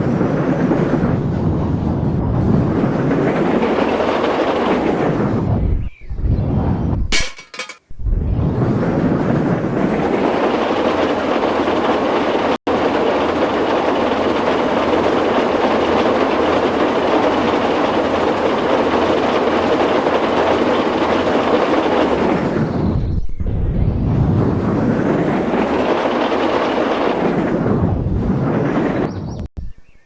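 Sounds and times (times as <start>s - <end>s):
train running on rails: 0.0s - 5.8s, 7.1s - 7.8s, 8.6s - 23.0s, 24.2s - 29.1s.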